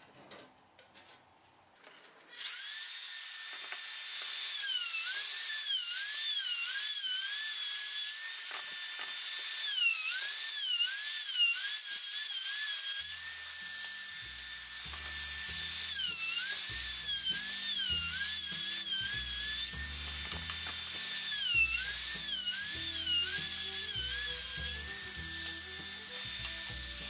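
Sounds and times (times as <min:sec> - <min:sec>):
router bit cutting wood: 0:02.3 - 0:27.0
wood router motor whine: 0:02.4 - 0:27.0.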